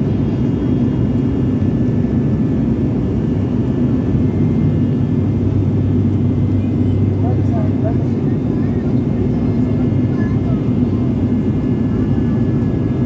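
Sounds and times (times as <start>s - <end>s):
airliner engine drone in cabin: 0.0s - 13.0s.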